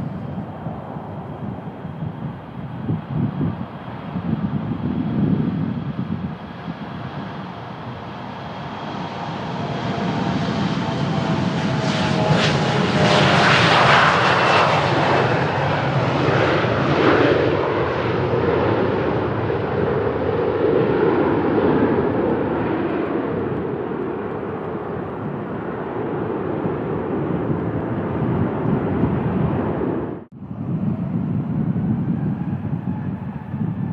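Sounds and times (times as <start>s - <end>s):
jet engines on departure: 0.0s - 33.9s
wind buffeting microphone: 0.0s - 33.9s.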